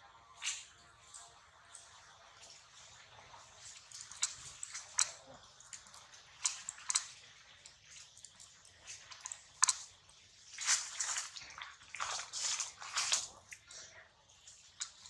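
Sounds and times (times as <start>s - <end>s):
monkey chewing juicy fruit: 2.7s - 15.0s.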